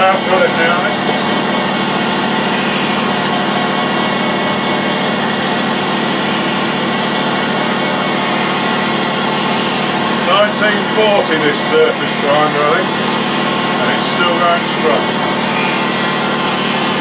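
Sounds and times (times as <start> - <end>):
surface grinder running: 0.0 - 17.0.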